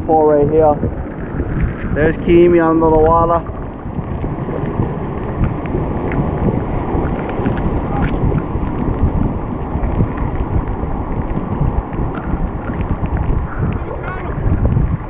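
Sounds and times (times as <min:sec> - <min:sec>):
surf churning over rocks: 0:00.0 - 0:15.0
wind buffeting microphone: 0:00.0 - 0:15.0.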